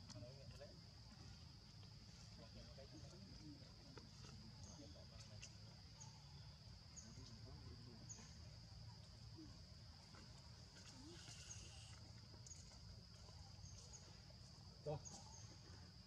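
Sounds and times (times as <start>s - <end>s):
insect drone: 0.1s - 16.0s.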